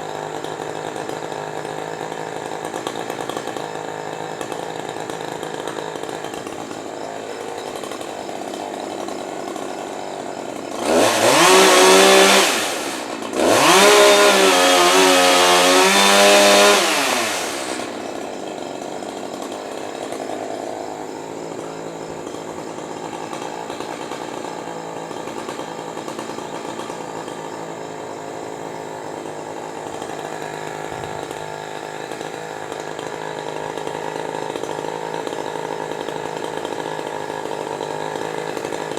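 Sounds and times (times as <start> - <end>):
chainsaw engine idling and revving: 0.0 - 38.9.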